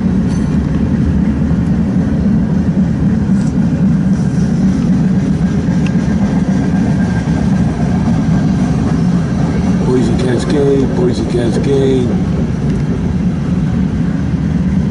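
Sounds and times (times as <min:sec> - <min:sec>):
steel wheels rumbling on rails: 0:00.0 - 0:14.9.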